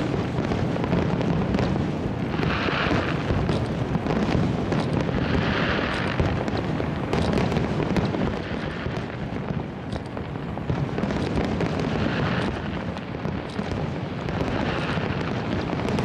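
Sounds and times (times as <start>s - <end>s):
crackling hiss of fireworks: 0.0s - 16.0s
fireworks bursting: 0.0s - 16.0s.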